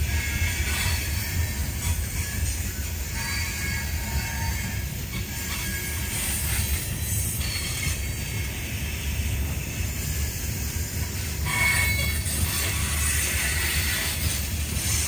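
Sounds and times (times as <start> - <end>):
wheel squeal: 0.0 - 8.6, 11.0 - 15.0
train wheels rumbling on track: 0.0 - 15.0.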